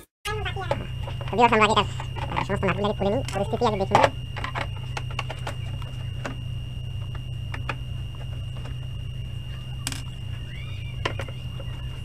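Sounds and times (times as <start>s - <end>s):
faint high whine: 0.3s - 12.0s
steady low hum: 0.3s - 12.0s.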